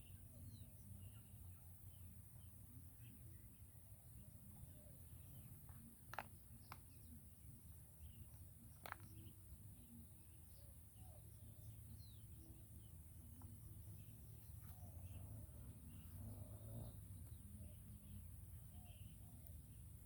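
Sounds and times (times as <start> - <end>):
bird chirps: 0.0 - 20.0
insect calls: 0.0 - 20.0.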